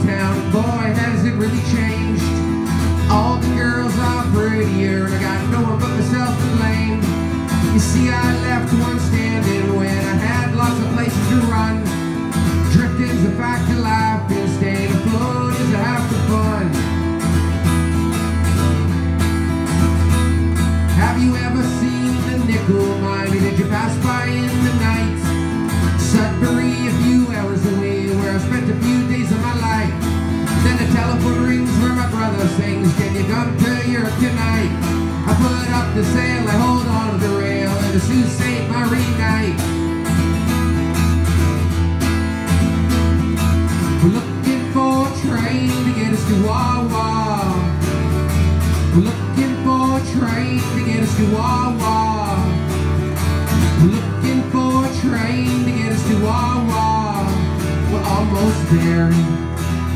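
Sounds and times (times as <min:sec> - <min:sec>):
man singing: 0:00.0 - 0:18.7, 0:20.3 - 0:40.2, 0:43.7 - 0:59.9
acoustic guitar strumming: 0:00.0 - 0:59.9.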